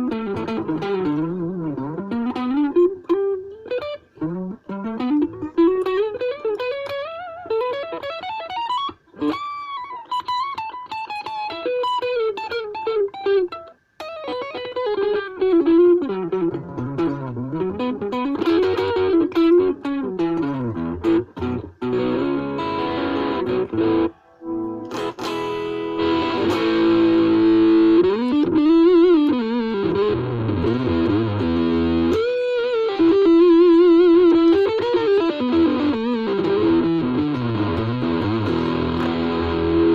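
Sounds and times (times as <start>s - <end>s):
electric guitar melodic runs: 0.0s - 39.9s.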